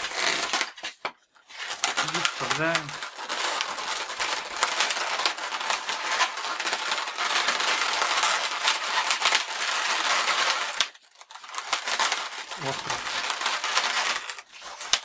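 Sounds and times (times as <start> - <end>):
balloons rubbing and squeaking: 0.0 - 0.8, 1.5 - 10.8, 11.9 - 14.8.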